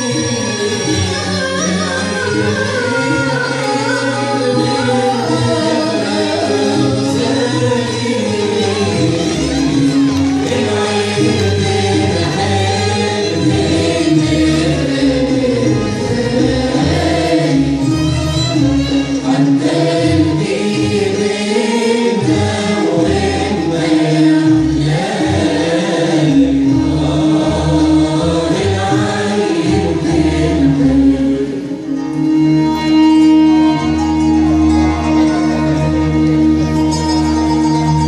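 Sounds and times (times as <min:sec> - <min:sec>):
oud: 0:00.0 - 0:38.0
qanun: 0:00.0 - 0:38.0
violins: 0:00.0 - 0:38.0
voices singing in chorus: 0:00.0 - 0:38.0.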